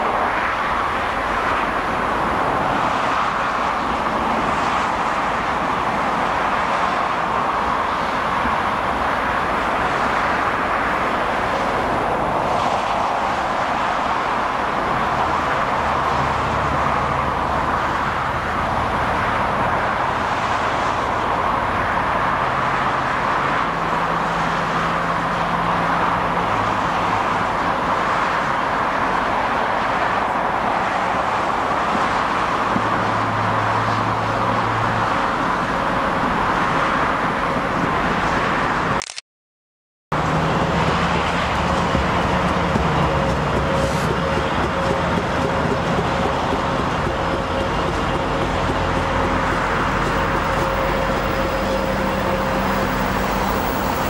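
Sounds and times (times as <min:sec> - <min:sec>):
freight train rolling by: 0:00.0 - 0:38.9, 0:40.2 - 0:54.0
diesel locomotive drone: 0:00.0 - 0:39.1, 0:40.1 - 0:54.0
freeway traffic roar: 0:00.0 - 0:39.2, 0:40.1 - 0:54.0.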